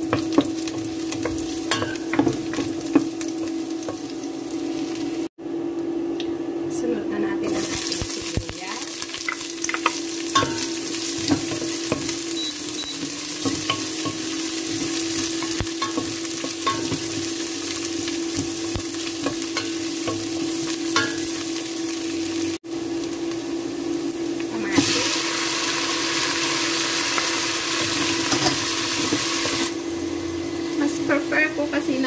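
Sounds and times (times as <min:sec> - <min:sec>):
garlic and onion sizzling in oil: 0:00.0 - 0:05.3, 0:07.4 - 0:32.0.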